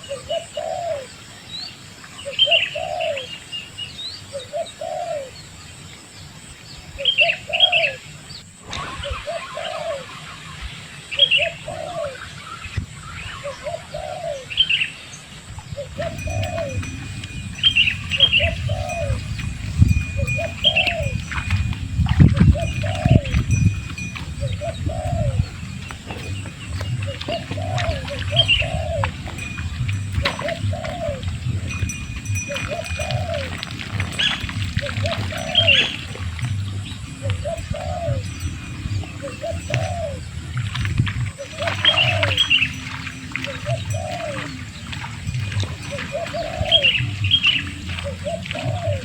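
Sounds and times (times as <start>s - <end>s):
dove cooing: 0.0s - 1.2s, 2.2s - 3.4s, 4.3s - 5.4s, 7.0s - 12.4s, 13.4s - 14.8s, 15.6s - 49.0s
bird chirping: 6.7s - 49.0s.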